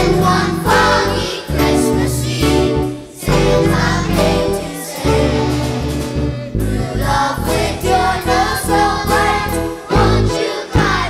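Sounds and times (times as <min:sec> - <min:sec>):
bass line: 0:00.0 - 0:11.0
children's choir singing: 0:00.0 - 0:11.0
drum kit beat: 0:00.0 - 0:11.0
keyboard: 0:00.0 - 0:11.0.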